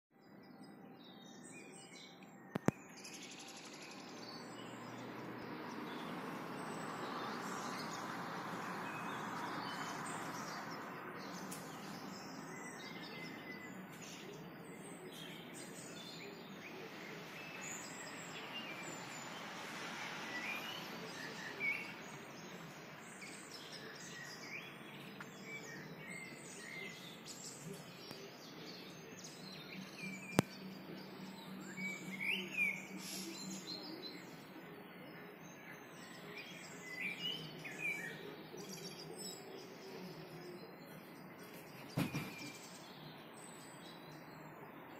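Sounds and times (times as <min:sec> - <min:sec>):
birds chirping and singing: 0:00.2 - 0:44.9.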